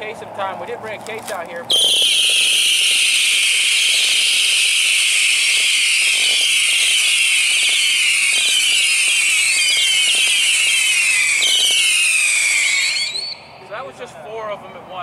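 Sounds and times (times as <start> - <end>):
fireworks sizzling hiss: 1.0 - 13.4.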